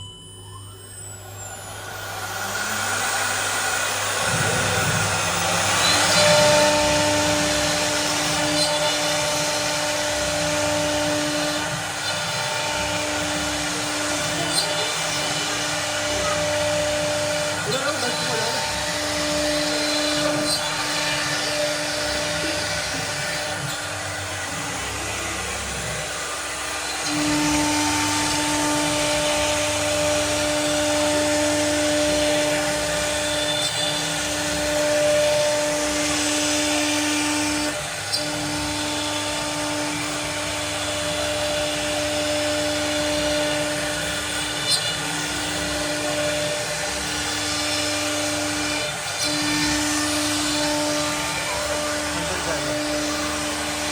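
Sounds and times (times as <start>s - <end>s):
cutting machine whine: 0.0s - 53.9s.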